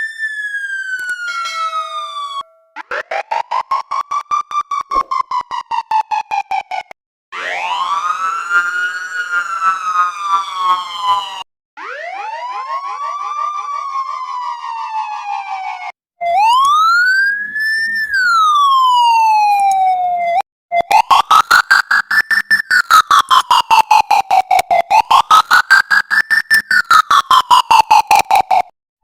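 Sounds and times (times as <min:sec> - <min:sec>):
electronic siren tones: 0:04.7 - 0:28.7.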